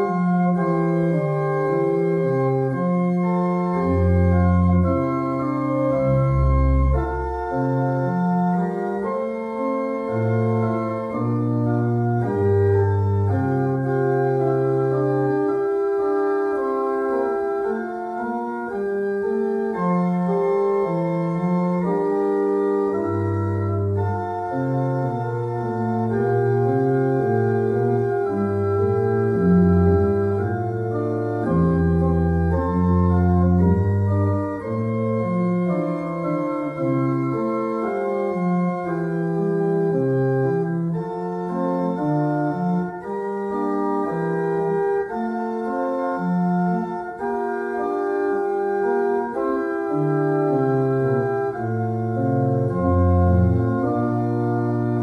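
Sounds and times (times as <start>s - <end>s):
organ playing full chords: 0.0s - 55.0s.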